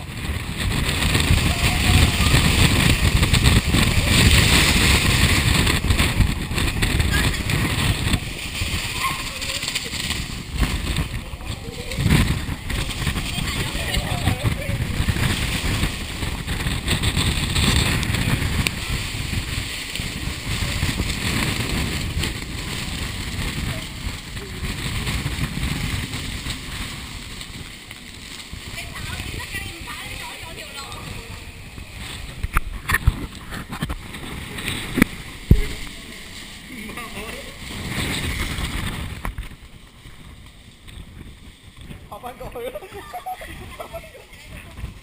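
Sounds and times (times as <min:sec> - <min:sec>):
rain hiss: 0:00.0 - 0:45.0
storm wind buffeting microphone: 0:00.0 - 0:45.0.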